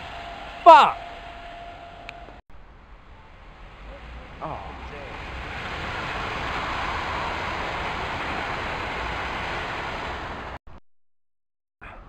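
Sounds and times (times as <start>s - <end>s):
train wheels roaring on rail: 0.0s - 10.6s.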